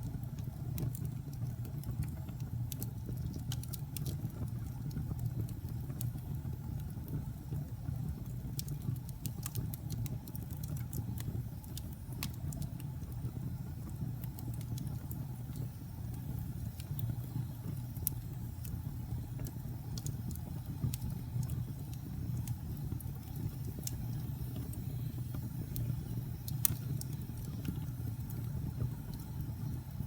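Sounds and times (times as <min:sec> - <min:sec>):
low rumble of flames: 0:00.0 - 0:30.0
wood fire pops and snaps: 0:00.0 - 0:30.0.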